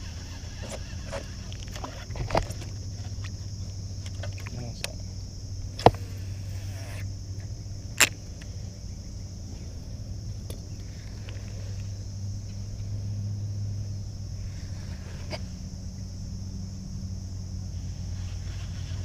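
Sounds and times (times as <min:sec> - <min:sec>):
boat motor humming: 0:00.0 - 0:19.0
constant high hiss: 0:00.0 - 0:19.0.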